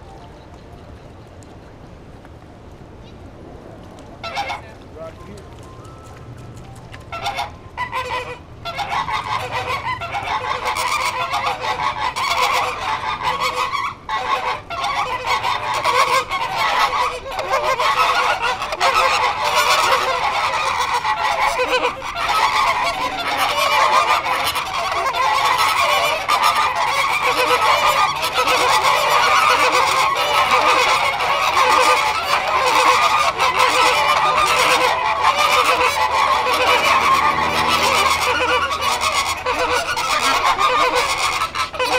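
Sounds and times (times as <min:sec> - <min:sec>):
flamingos honking: 0:04.2 - 0:04.8, 0:05.8 - 0:41.9.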